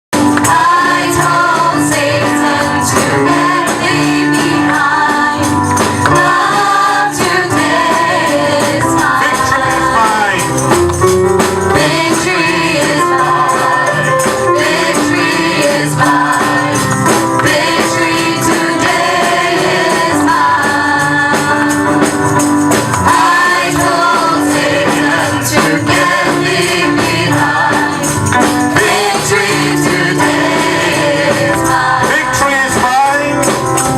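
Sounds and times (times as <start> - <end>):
tambourine: 0.1 - 33.9
choir singing gospel song: 0.2 - 10.8, 11.6 - 33.9.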